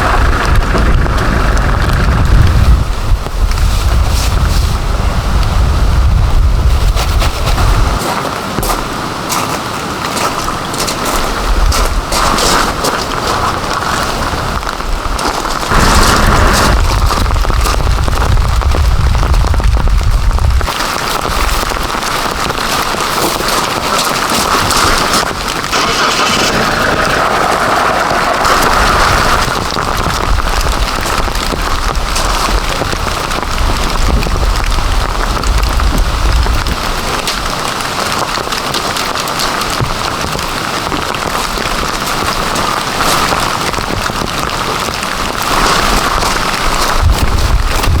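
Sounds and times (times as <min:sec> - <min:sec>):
low rumbles: 0:00.0 - 0:09.3, 0:10.4 - 0:23.1, 0:23.7 - 0:37.6, 0:43.7 - 0:48.0
heavy rain falling: 0:00.0 - 0:48.0.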